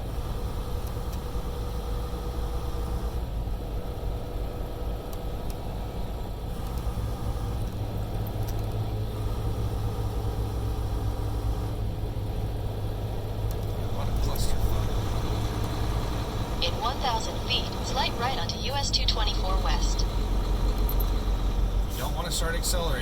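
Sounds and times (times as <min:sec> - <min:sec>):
diesel truck engine running: 0:00.0 - 0:23.0
road noise: 0:00.0 - 0:23.0.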